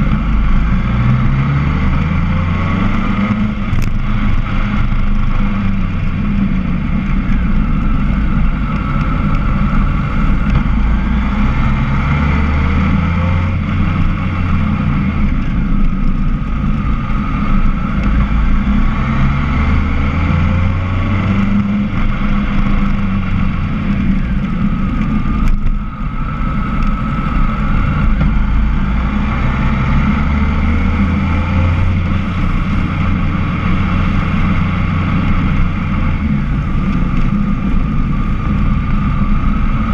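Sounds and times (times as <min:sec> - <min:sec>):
motorcycle engine: 0:00.0 - 0:39.9
wind rumble on microphone: 0:00.0 - 0:39.9.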